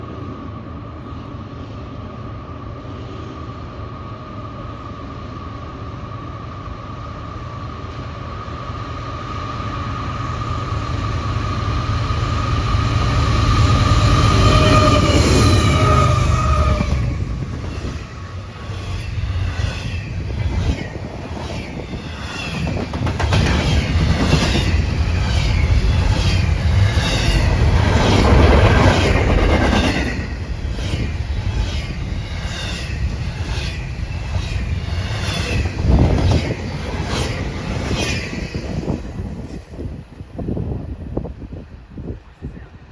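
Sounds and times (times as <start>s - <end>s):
freight train passing: 0.0s - 42.9s
low train rumble: 0.0s - 42.9s.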